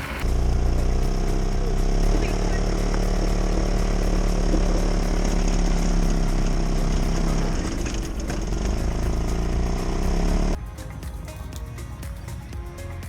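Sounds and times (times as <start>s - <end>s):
pickup truck engine running: 0.0s - 10.6s.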